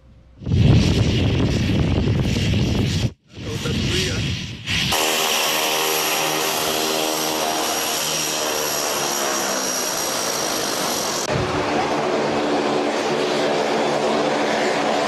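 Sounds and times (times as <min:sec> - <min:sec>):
high turbine whine: 0:00.0 - 0:15.0
turboprop engine drone: 0:00.0 - 0:15.0.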